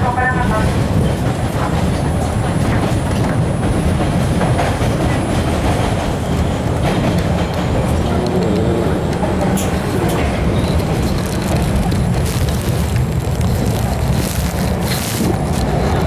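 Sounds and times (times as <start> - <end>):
subway car wheels rumbling: 0.0 - 16.0.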